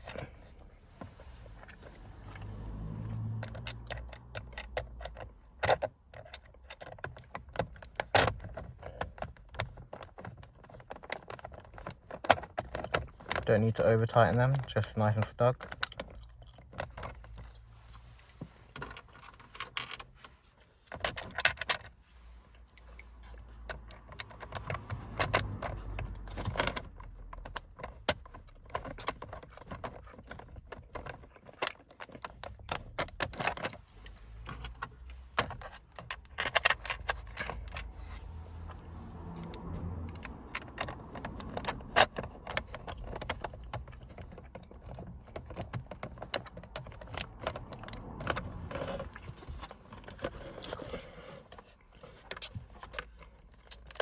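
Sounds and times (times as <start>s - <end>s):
small hard parts clicking and rattling: 0.0s - 54.0s.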